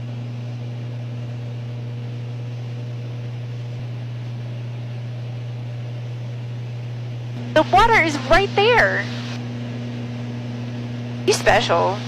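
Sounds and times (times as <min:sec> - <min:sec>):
aircraft cockpit drone: 0:00.0 - 0:12.0.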